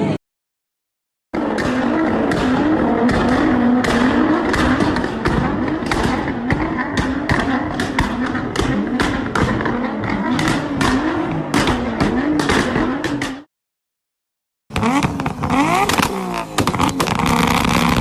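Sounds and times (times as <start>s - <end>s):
car engine revving hard: 1.4s - 13.3s, 14.7s - 18.0s
exhaust pops and bangs: 1.4s - 13.5s, 14.7s - 18.0s.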